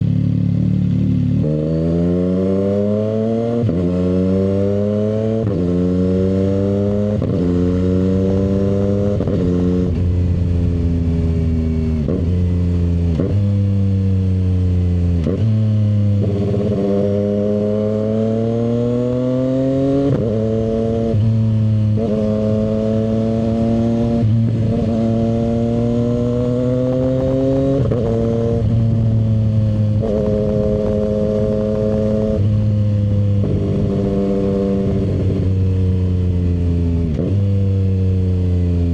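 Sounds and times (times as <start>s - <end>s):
motorcycle engine revving through gears: 0.0s - 38.9s.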